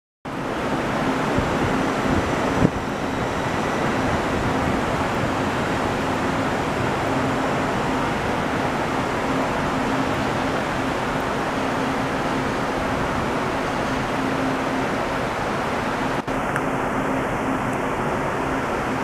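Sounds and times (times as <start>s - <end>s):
faint hum: 0.3s - 19.0s
wheels on rails: 0.3s - 19.0s.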